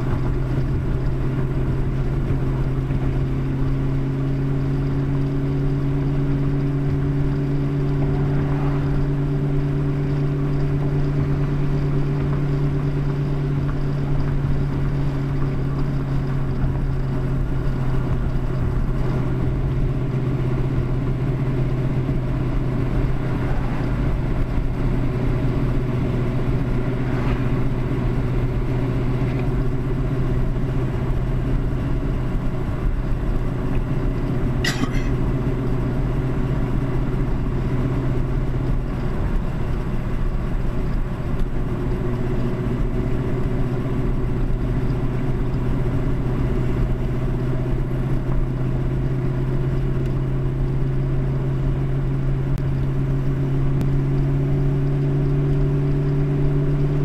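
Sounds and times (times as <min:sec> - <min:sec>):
car driving road noise: 0:00.0 - 0:57.0
loud unfiltered car exhaust: 0:00.0 - 0:57.0.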